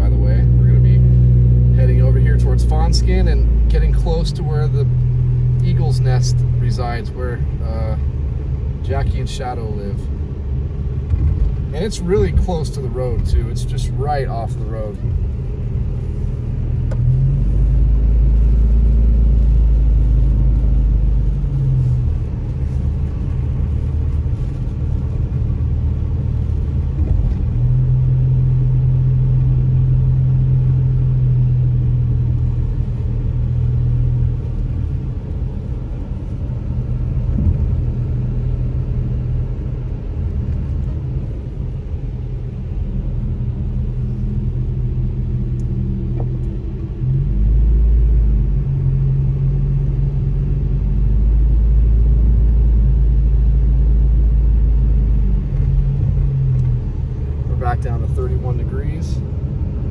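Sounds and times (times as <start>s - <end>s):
car engine and tyre rumble: 0.0s - 59.9s
deep drone: 0.0s - 59.9s.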